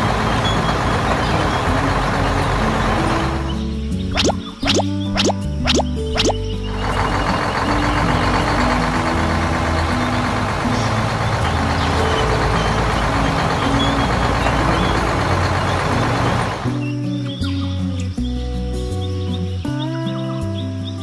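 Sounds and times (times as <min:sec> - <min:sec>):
noisy vehicle engine: 0:00.0 - 0:16.9
background music with bass: 0:00.0 - 0:21.0.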